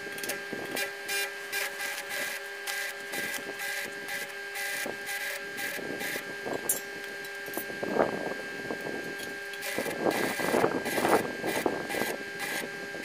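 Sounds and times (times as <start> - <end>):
welding arc crackling: 0.0 - 7.8, 9.1 - 12.8.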